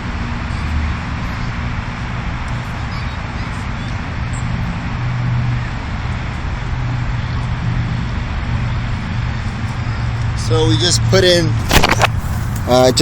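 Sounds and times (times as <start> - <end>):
constant low hum: 0.0 - 13.0
outdoor rumble and hiss: 0.0 - 13.0.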